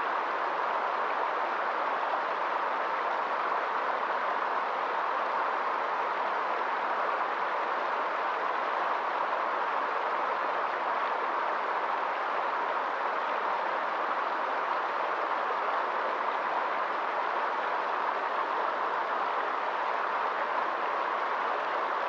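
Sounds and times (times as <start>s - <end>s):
stream rushing over rocks: 0.1s - 22.0s.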